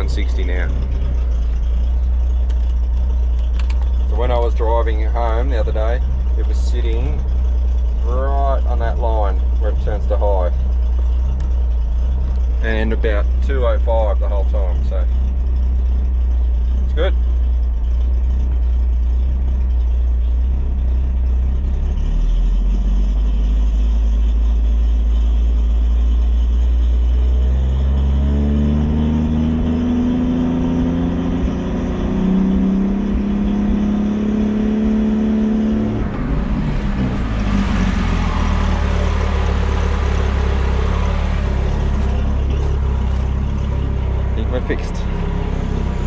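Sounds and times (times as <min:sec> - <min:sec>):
truck engine rumbling: 0:00.0 - 0:46.0.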